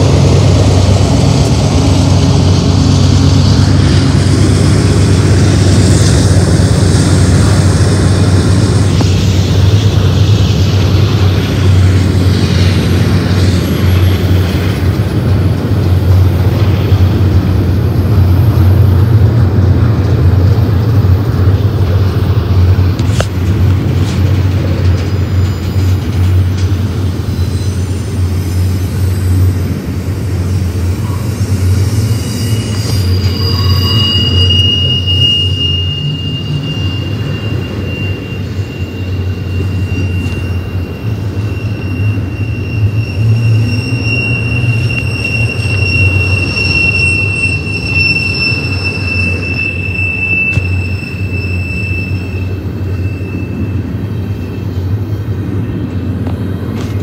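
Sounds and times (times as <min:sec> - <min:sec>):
freight train wheels rumbling: 0:00.0 - 0:57.0
higher wheel squeal: 0:00.0 - 0:57.0
high thin wheel squeal: 0:03.0 - 0:17.0, 0:22.8 - 0:55.2.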